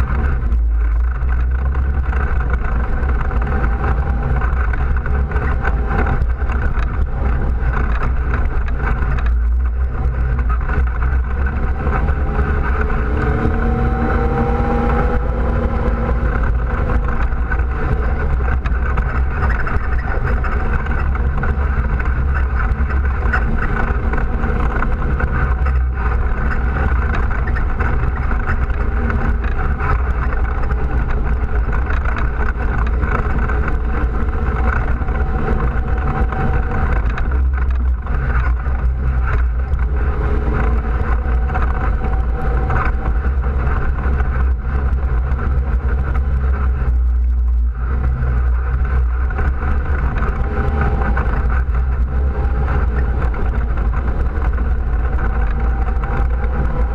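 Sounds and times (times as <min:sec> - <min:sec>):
atv engine running: 0:00.0 - 0:56.9.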